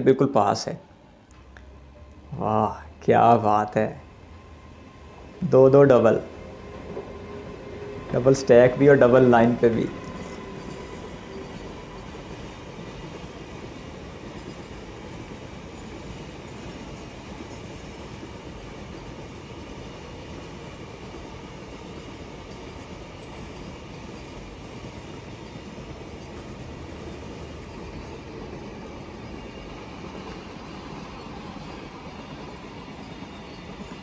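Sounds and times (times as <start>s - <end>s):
freight train wheels rumbling: 1.3s - 34.0s.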